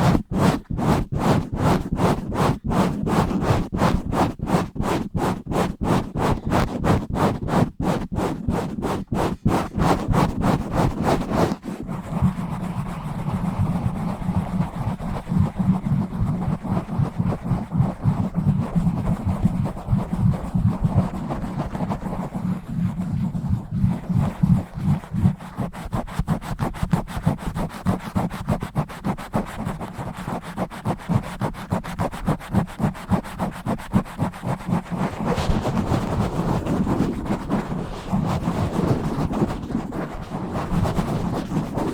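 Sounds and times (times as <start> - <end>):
scratching on a microphone: 0.0 - 41.9.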